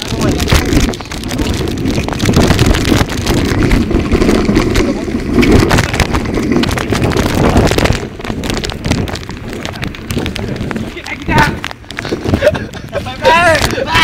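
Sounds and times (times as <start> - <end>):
wind on phone microphone: 0.0 - 14.0.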